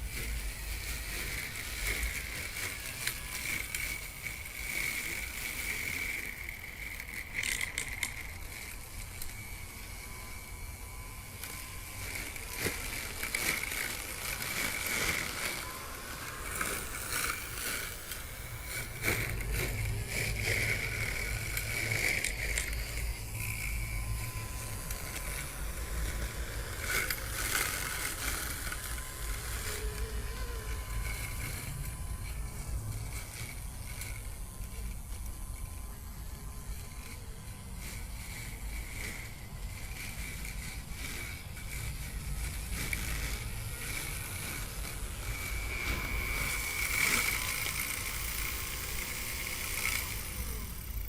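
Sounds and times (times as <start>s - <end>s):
electric mower motor whining: 0.0s - 51.0s.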